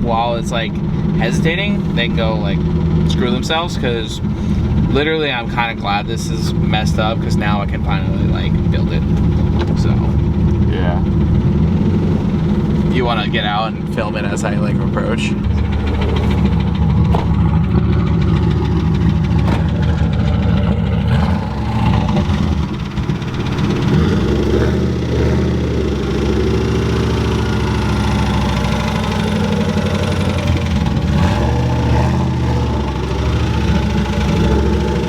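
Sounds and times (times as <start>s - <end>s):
car engine with knocking: 0.0s - 35.0s.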